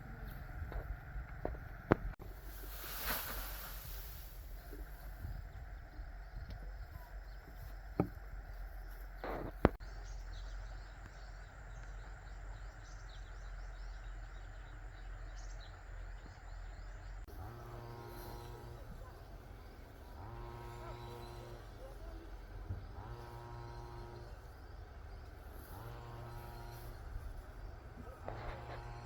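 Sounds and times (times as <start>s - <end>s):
low outdoor rumble: 0.0s - 29.0s
small birds chirping: 0.0s - 29.0s.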